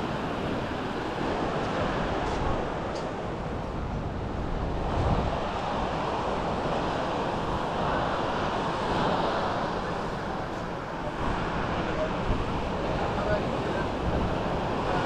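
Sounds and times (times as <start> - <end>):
sea surf on beach: 0.0 - 15.0
wind rumbling on microphone: 0.0 - 15.0.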